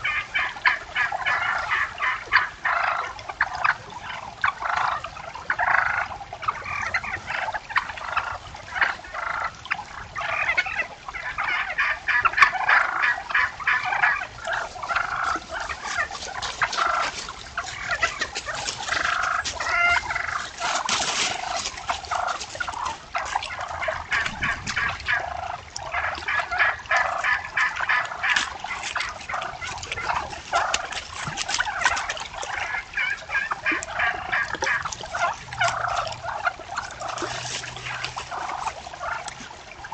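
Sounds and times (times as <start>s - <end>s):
turkeys calling: 0.0s - 39.9s.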